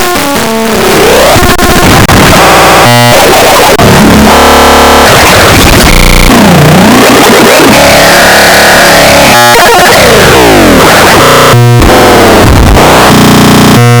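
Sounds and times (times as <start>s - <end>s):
harsh electronic noise: 0.0s - 14.0s.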